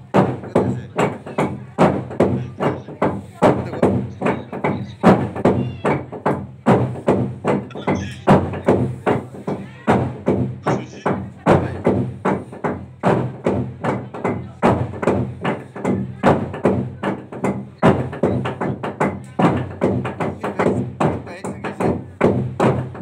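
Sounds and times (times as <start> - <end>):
log drum beaten with wooden beaters: 0.0 - 23.0.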